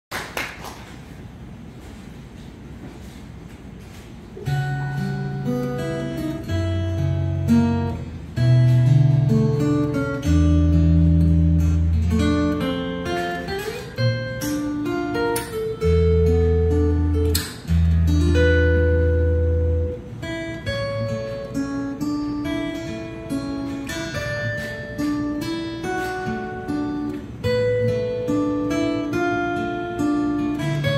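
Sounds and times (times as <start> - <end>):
fingerstyle acoustic guitar: 1.8 - 30.9.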